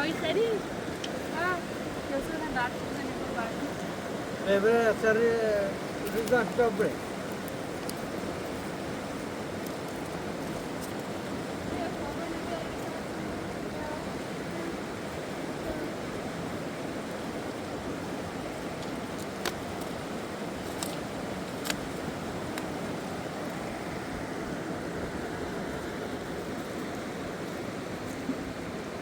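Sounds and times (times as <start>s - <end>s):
fast-flowing river rushing: 0.0s - 29.0s.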